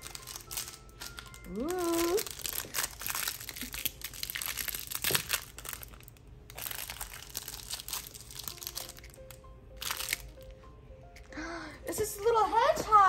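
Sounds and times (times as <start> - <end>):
plastic wrapper crinkling: 0.0 - 11.3.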